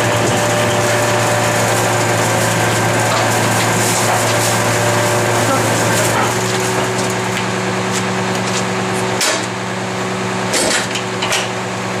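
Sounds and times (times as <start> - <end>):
garbage truck engine humming: 0.0 - 12.0.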